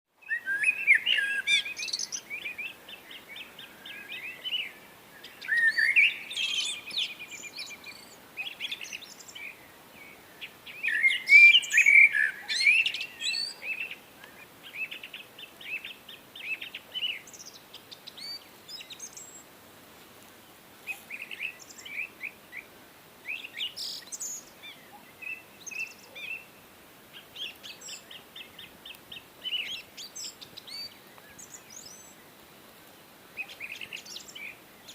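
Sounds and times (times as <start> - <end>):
faint steady hiss: 0.1 - 34.9
songbirds chirping and trilling: 0.2 - 19.6, 20.2 - 34.9.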